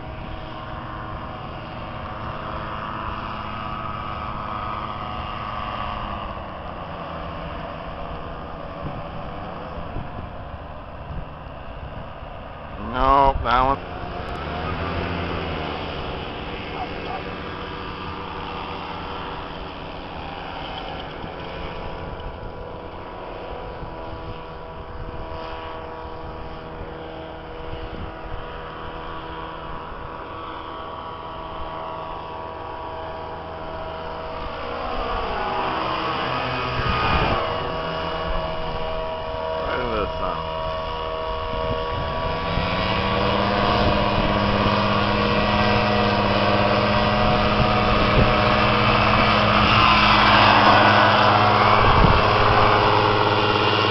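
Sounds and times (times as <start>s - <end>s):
paramotor engines droning: 0.0s - 53.9s.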